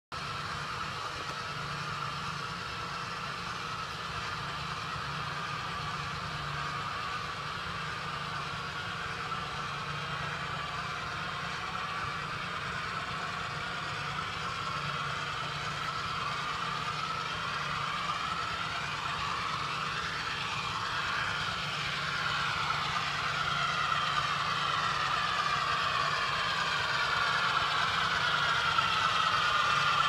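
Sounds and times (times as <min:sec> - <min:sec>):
diesel locomotive engine hum: 0:00.0 - 0:30.0.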